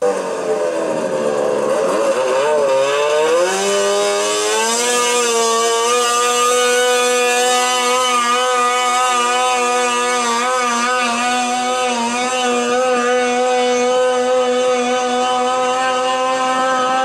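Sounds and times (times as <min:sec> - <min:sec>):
engine at full throttle: 0:00.0 - 0:17.0.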